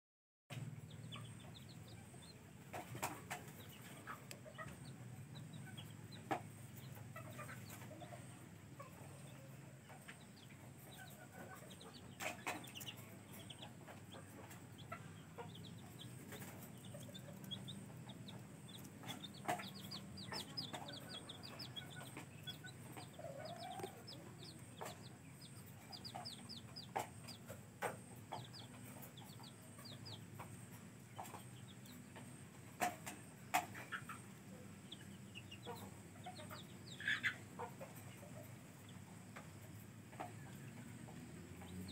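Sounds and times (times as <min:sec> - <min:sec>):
chicks peeping: 0:00.5 - 0:41.9.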